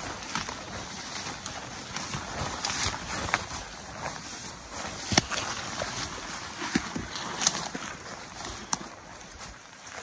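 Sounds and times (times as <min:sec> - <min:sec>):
footsteps on forest trail: 0:00.0 - 0:10.0
twigs snapping and rustling: 0:00.0 - 0:10.0.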